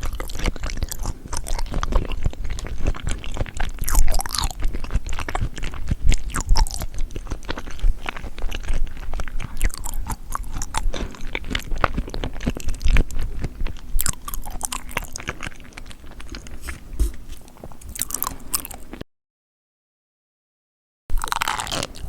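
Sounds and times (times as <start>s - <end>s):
crunchy chewing of seafood: 0.0s - 19.0s, 21.1s - 22.0s.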